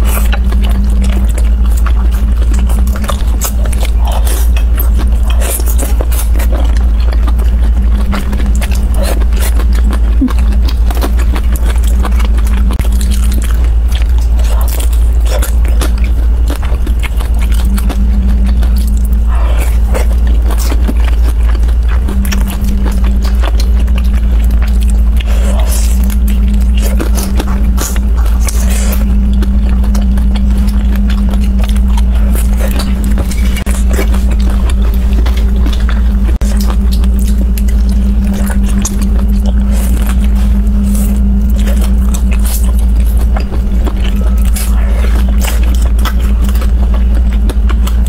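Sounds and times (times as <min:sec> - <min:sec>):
biting and chewing: 0:00.0 - 0:48.0
low hum: 0:00.0 - 0:48.0.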